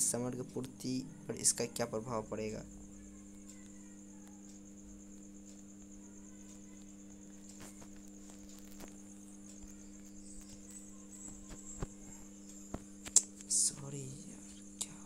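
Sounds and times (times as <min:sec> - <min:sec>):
faint background hum: 0:00.0 - 0:15.0
high pulsing whine: 0:00.0 - 0:15.0.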